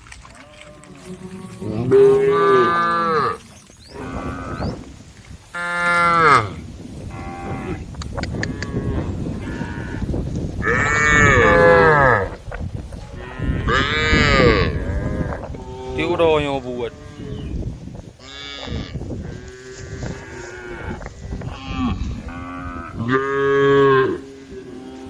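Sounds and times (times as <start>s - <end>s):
cows mooing: 0.3s - 4.9s, 5.5s - 12.4s, 13.0s - 17.5s, 18.2s - 25.0s.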